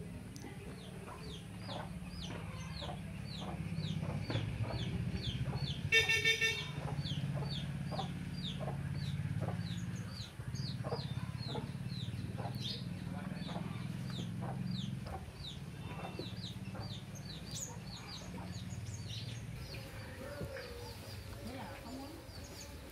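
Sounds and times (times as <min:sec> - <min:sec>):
small bird chirping: 0:00.4 - 0:22.9.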